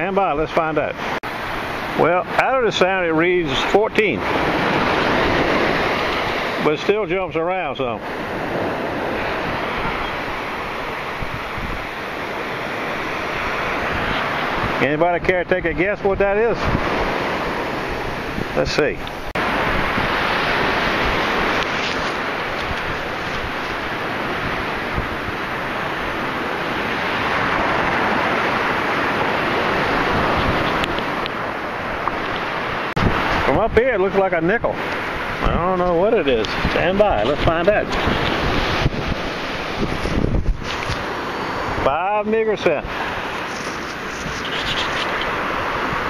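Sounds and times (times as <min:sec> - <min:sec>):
surf washing up the beach: 0:00.0 - 0:46.0
wind buffeting the microphone: 0:03.3 - 0:41.9.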